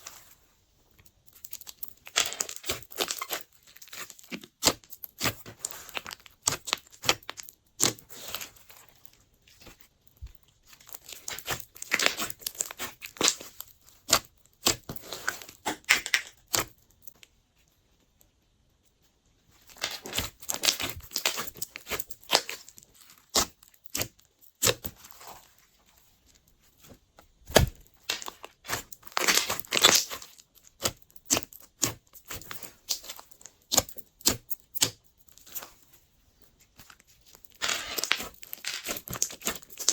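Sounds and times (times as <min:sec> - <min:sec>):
hands squishing slime: 0:01.3 - 0:17.1, 0:19.7 - 0:25.5, 0:27.4 - 0:35.8, 0:36.7 - 0:39.9.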